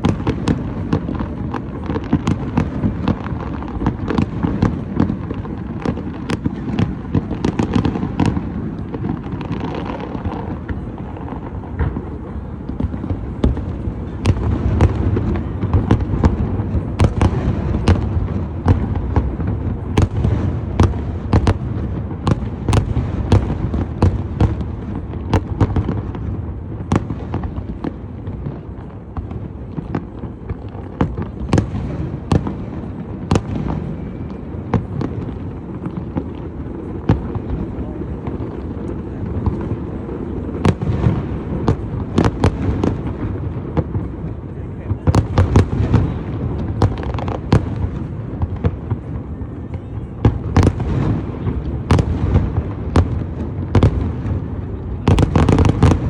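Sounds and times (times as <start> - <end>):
fireworks cracks and pops: 0.0 - 56.0
fireworks rumbling: 0.0 - 56.0.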